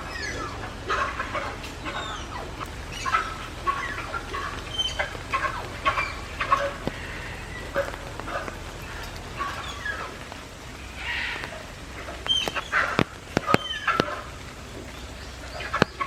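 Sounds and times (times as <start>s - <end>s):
tapirs squeaking: 0.0s - 16.0s.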